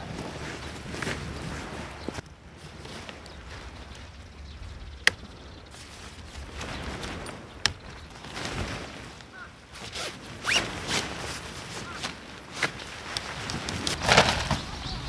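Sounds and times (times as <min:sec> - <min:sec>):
tent poles handled: 0:00.0 - 0:04.0, 0:05.0 - 0:14.7
nylon tent fabric rustling: 0:00.0 - 0:15.0.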